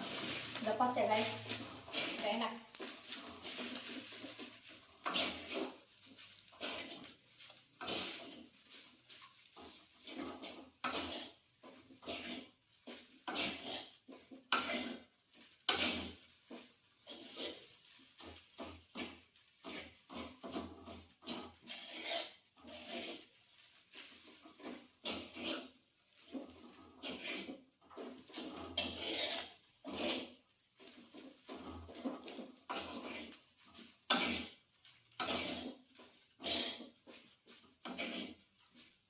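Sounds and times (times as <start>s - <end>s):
spatula scraping a frying pan: 0.0s - 39.0s.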